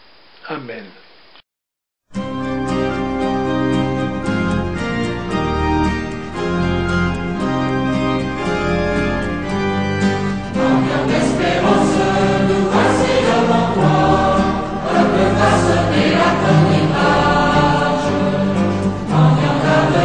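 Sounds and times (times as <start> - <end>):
choir singing held chords: 2.6 - 20.0.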